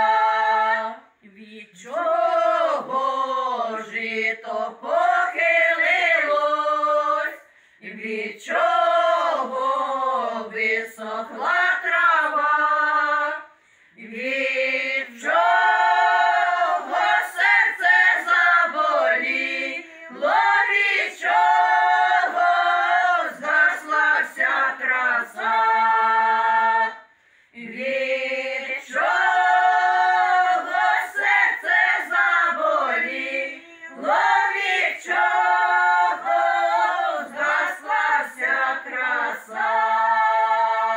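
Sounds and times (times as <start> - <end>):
women singing a cappella in harmony: 0.0 - 40.9.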